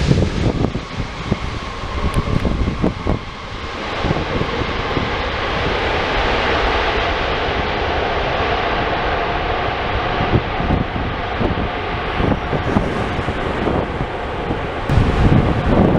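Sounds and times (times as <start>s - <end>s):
jet engines rumbling: 0.0s - 15.9s
wind on microphone: 0.0s - 15.9s.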